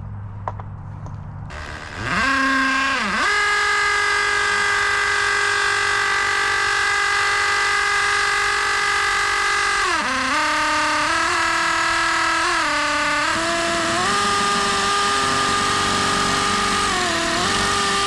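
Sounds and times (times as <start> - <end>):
electric drill whining: 1.5 - 18.0.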